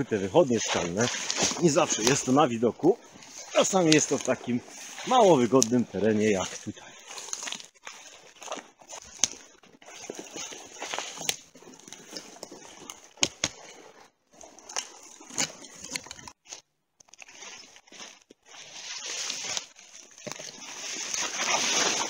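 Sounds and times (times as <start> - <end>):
twigs snapping: 0.0 - 2.4, 3.0 - 22.0
branches brushing against clothing: 0.0 - 22.0
crackling footsteps in undergrowth: 0.0 - 22.0.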